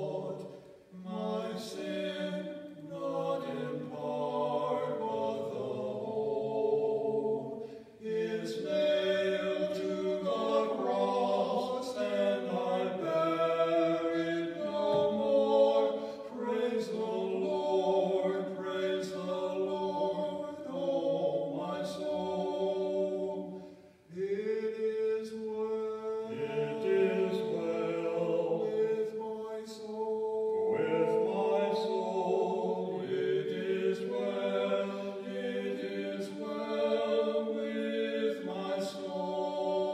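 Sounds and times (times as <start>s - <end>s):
two men singing a hymn: 0.0s - 39.9s.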